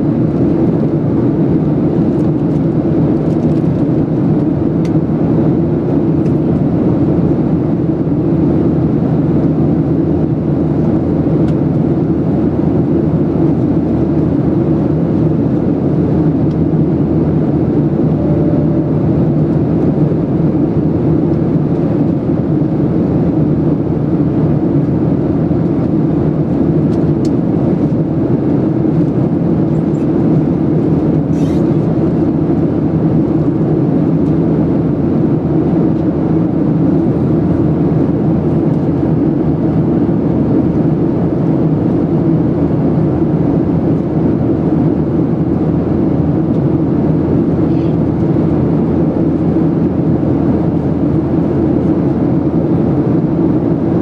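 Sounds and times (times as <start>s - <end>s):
rushing airflow: 0.0s - 43.4s
jet engines in cabin: 0.0s - 54.0s.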